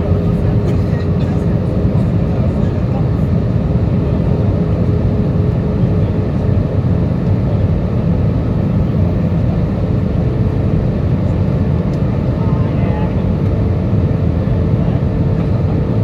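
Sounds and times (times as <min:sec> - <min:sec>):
engine and airflow rumble: 0:00.0 - 0:16.0.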